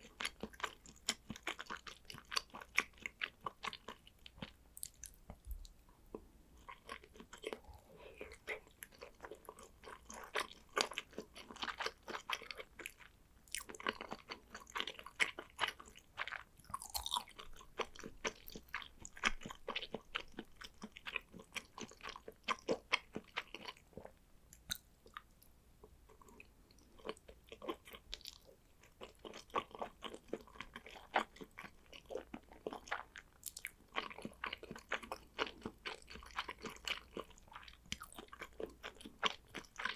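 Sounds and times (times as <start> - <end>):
wet chewing mouth sounds: 0.0 - 25.3, 26.1 - 39.9.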